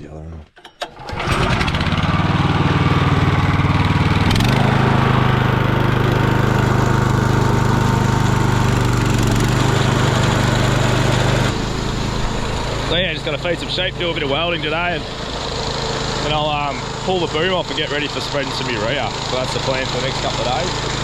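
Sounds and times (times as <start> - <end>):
engine running: 0.9 - 21.0.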